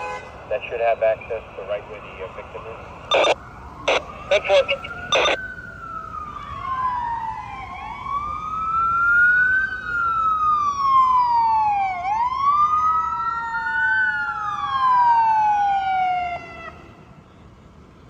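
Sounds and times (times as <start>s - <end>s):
emergency siren wailing: 0.3s - 17.2s.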